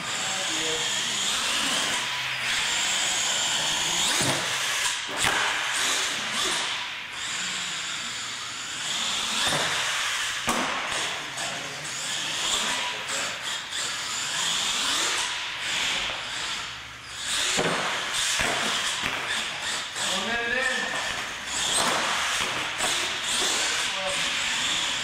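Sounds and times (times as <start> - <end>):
toy truck motor whining: 0.0 - 25.0.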